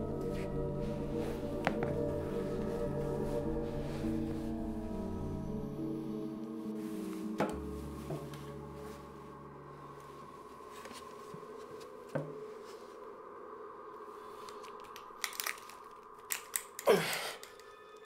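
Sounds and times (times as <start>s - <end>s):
low musical drone: 0.0s - 18.0s.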